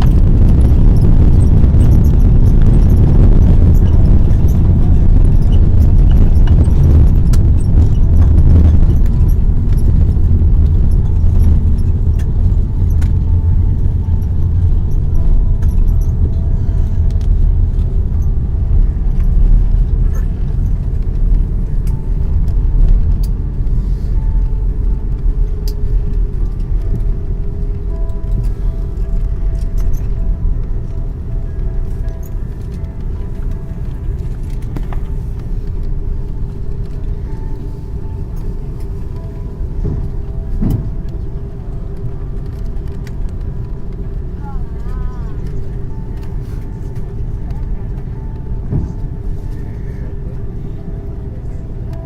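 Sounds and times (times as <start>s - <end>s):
wheels rolling on runway: 0.0s - 51.8s
low rumble of aircraft engines: 0.0s - 52.0s.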